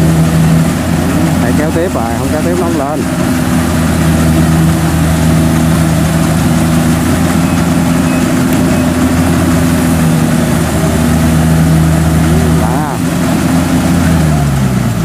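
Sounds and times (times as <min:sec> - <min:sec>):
harvester diesel engines droning: 0:00.0 - 0:15.0.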